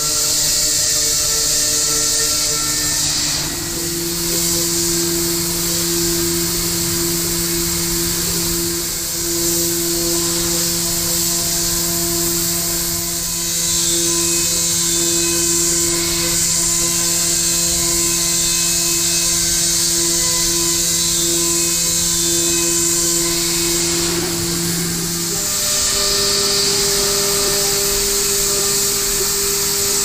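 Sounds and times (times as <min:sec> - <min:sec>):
milling machine spindle whine: 0:00.0 - 0:30.0.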